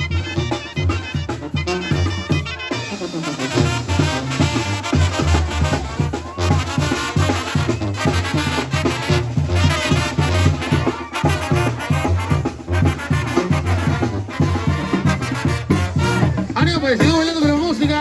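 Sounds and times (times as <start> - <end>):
brass band playing dance tune: 0.0 - 18.0
trumpets and trombones: 0.0 - 18.0
tuba bass line: 0.0 - 18.0.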